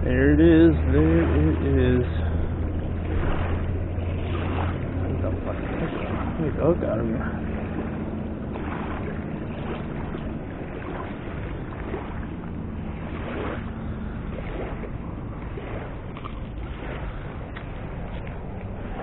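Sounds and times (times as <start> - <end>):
low hum: 0.0 - 19.0
river rushing: 0.0 - 19.0
wind buffeting microphone: 0.0 - 19.0.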